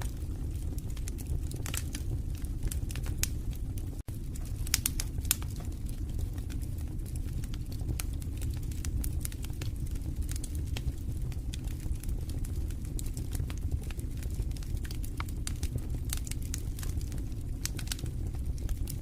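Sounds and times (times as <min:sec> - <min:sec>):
low rumble of flames: 0:00.0 - 0:19.0
wood crackling and popping: 0:00.0 - 0:19.0.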